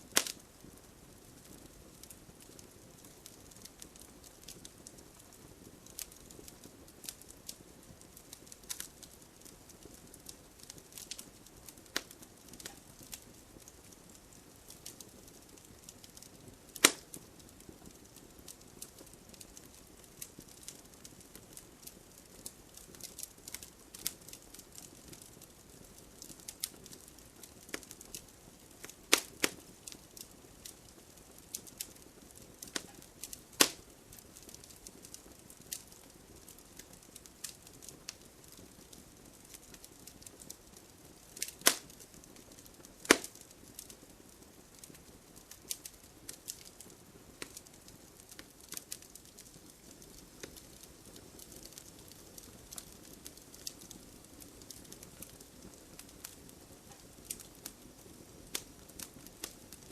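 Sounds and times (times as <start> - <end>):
fire snaps and pops: 0.0 - 59.9
low hiss of burning: 0.0 - 59.9.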